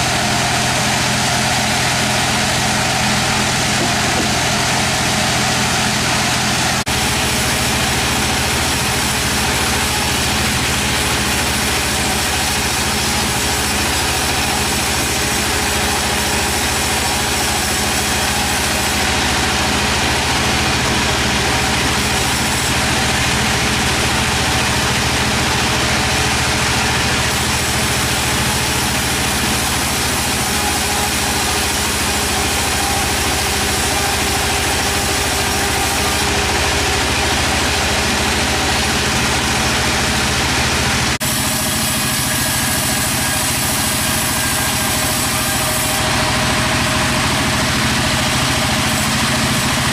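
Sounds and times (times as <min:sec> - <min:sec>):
sawmill machinery droning: 0:00.0 - 0:49.9.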